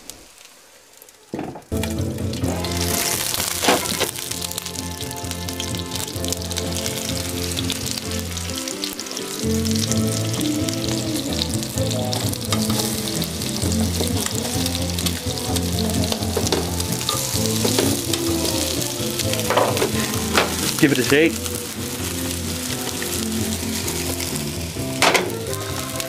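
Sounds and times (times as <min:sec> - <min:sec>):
eggplant sizzling in oil: 0:00.0 - 0:26.0
song playing: 0:01.7 - 0:26.0.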